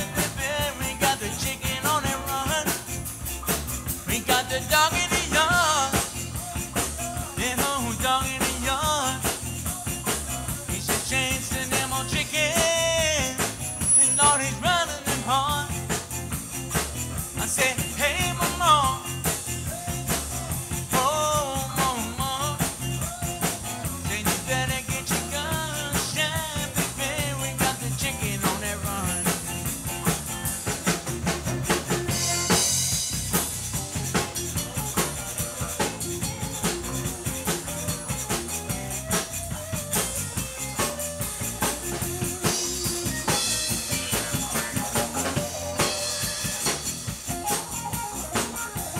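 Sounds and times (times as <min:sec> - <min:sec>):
bass: 0:00.0 - 0:48.9
drum kit beat: 0:00.0 - 0:48.9
electric guitar: 0:00.0 - 0:48.9.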